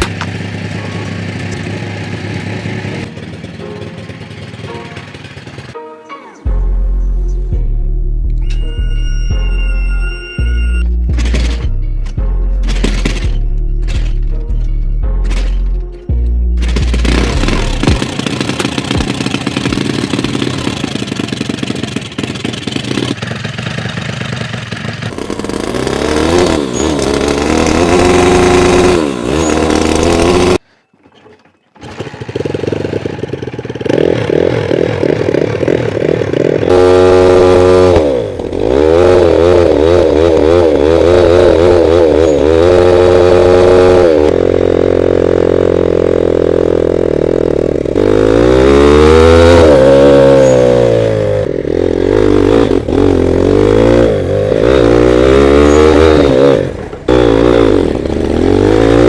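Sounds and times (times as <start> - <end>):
motorcycle engine revving: 0.0 - 5.8, 8.8 - 30.7, 31.8 - 59.0.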